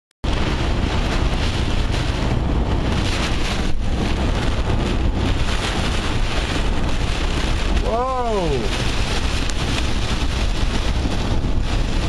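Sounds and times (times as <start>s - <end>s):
heavy rain on a car: 0.3s - 12.0s
tyre spray and road noise: 0.3s - 12.0s.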